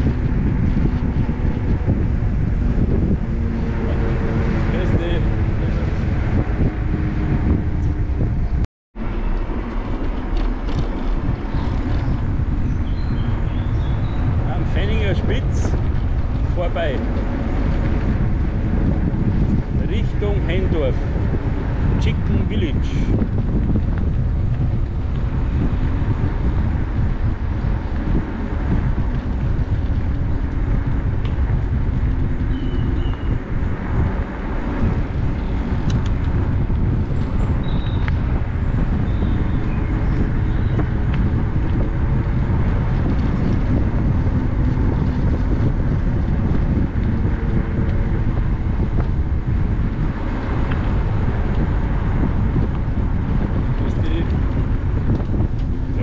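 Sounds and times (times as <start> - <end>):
bike tyre noise on path: 0.0 - 56.0
wind rumble on microphone: 0.0 - 56.0.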